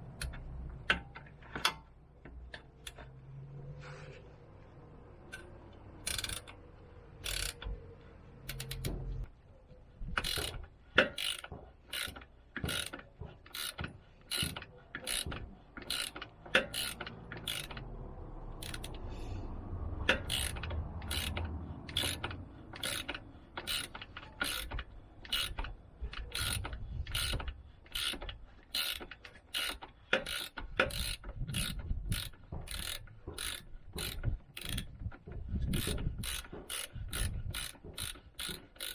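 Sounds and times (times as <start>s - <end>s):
ratchet wrench clicking: 0.0s - 1.9s, 2.5s - 3.2s, 5.3s - 7.8s, 8.4s - 9.3s, 10.1s - 19.1s, 20.0s - 38.9s.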